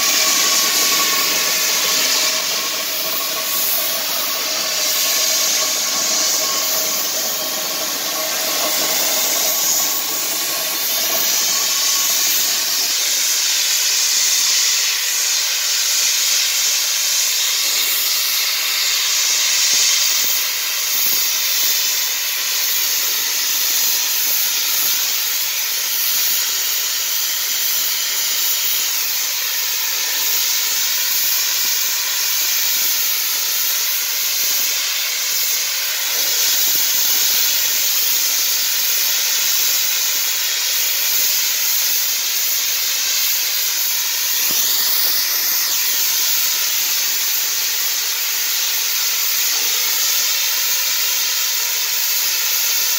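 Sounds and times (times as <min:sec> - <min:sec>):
steam hissing from locomotive: 0:00.0 - 0:52.9.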